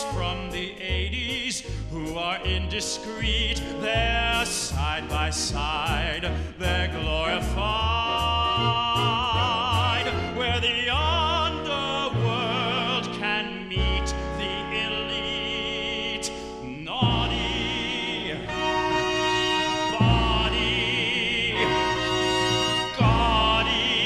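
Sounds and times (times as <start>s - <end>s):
man singing operatically: 0.0s - 24.0s
theatre orchestra: 0.0s - 24.0s.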